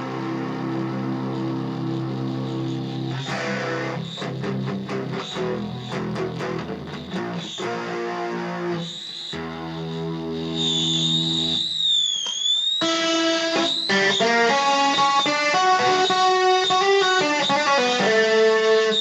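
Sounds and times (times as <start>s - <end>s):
electric guitar playing: 0.0s - 11.6s, 12.8s - 19.0s.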